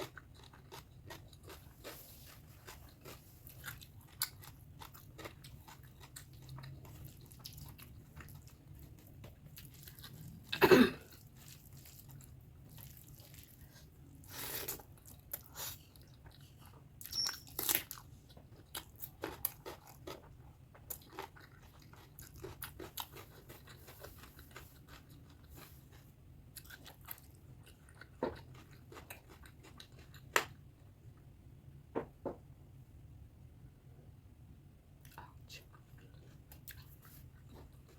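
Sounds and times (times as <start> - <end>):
chewing and mouth sounds: 0.0 - 30.6, 35.0 - 37.9.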